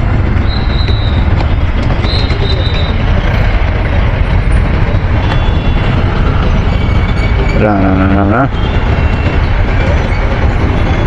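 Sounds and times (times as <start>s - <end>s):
motorcycle engine: 0.0s - 11.0s
road traffic: 0.0s - 11.0s
wind rush on microphone: 0.0s - 11.0s.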